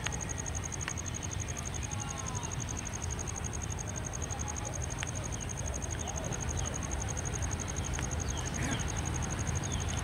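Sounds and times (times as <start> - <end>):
faint chirps: 0.0 - 10.0.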